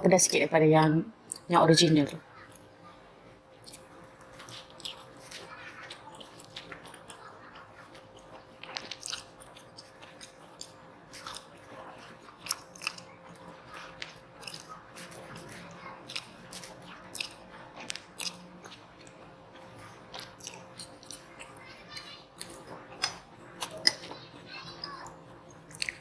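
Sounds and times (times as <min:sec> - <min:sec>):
person slurping and chewing noodles: 0:03.6 - 0:26.0.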